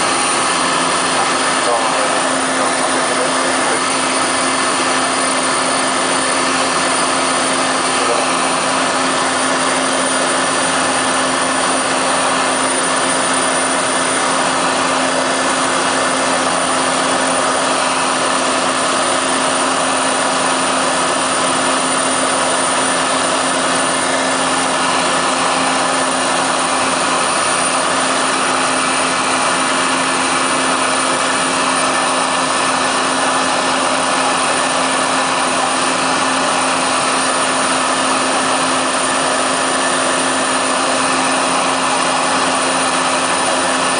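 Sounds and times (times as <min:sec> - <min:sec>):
turboprop engine drone: 0:00.0 - 0:43.9.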